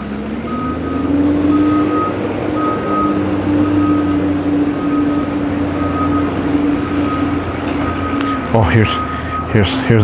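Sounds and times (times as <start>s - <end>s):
engine hum: 0.0s - 10.0s
reversing alarm beeping: 0.4s - 10.0s.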